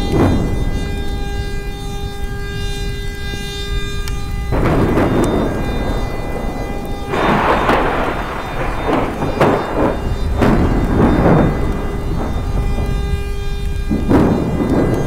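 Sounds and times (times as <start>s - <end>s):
thunder rumbling and cracking: 0.0s - 15.0s.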